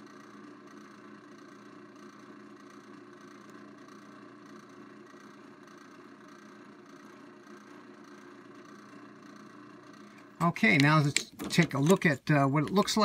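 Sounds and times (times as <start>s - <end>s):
drill press humming: 0.0s - 13.0s.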